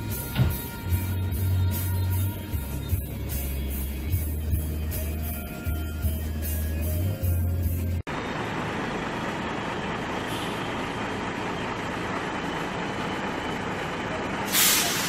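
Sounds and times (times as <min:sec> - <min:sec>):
bus engine running: 0:00.0 - 0:15.0
road noise: 0:00.0 - 0:15.0.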